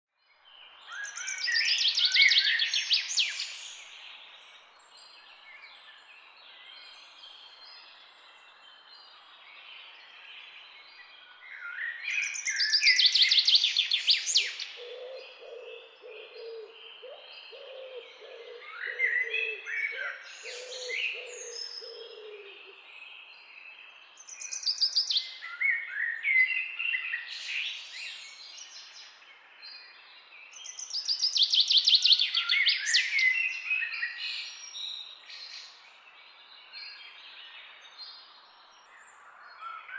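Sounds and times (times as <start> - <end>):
faint bird chirps: 0.3 - 39.9
birds singing high gliding notes: 0.8 - 39.9.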